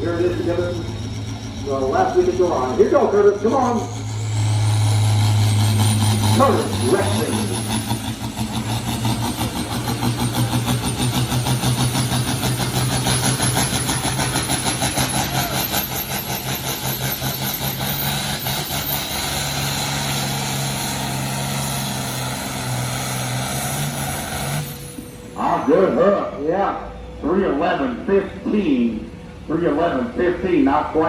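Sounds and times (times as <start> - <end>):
tractor engine under full load: 0.0 - 31.0.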